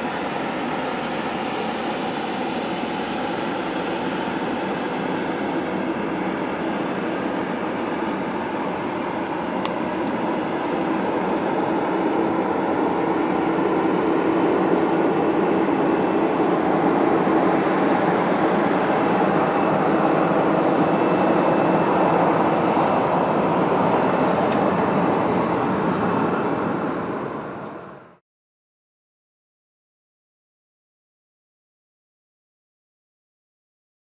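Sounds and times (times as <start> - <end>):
jet engines rushing: 0.0 - 28.2.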